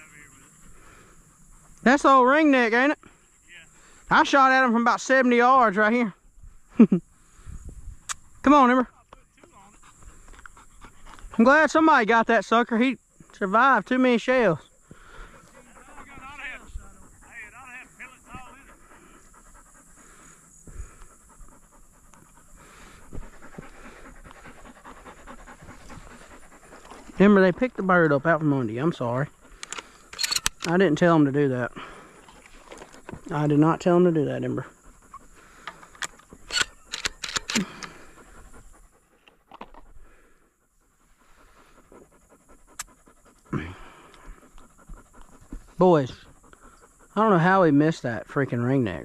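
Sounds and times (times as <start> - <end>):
dog panting: 0.0 - 49.0.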